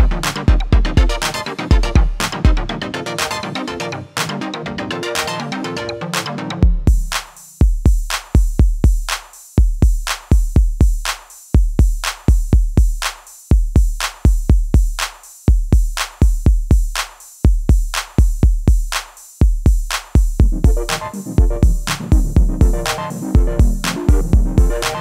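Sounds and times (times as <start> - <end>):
electronic music with drum-machine beat: 0.0 - 25.0.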